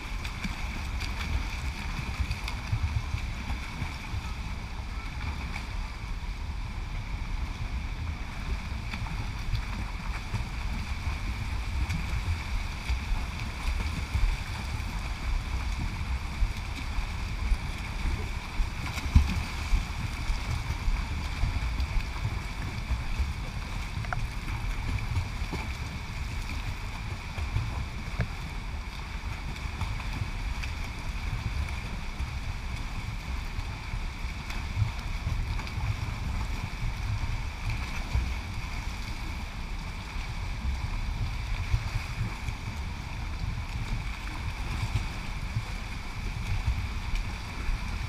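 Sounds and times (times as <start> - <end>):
water lapping against camera: 0.0 - 48.0.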